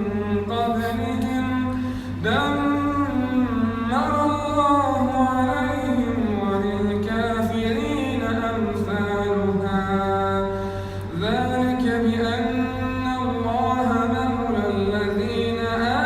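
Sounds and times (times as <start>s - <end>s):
man chanting melodically: 0.0s - 16.0s
steady low hum: 0.0s - 16.0s.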